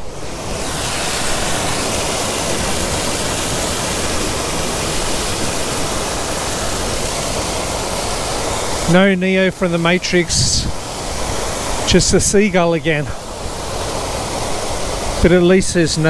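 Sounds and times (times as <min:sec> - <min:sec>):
loud rush of falling water: 0:00.0 - 0:16.0.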